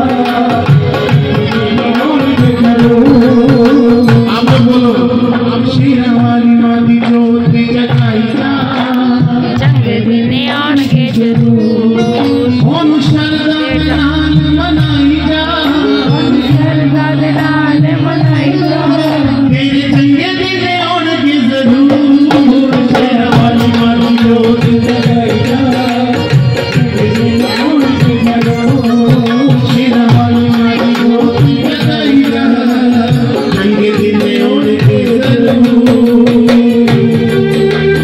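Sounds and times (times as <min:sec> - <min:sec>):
man singing into microphone: 0:00.0 - 0:38.0
tabla drumming: 0:00.0 - 0:38.0.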